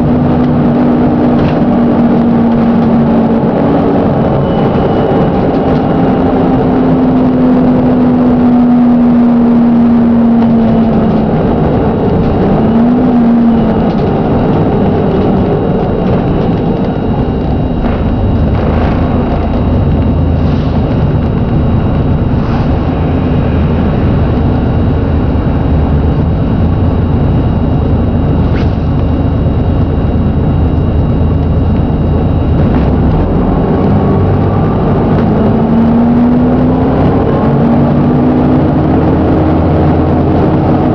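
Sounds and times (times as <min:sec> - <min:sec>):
gearbox whine: 0:00.0 - 0:40.9.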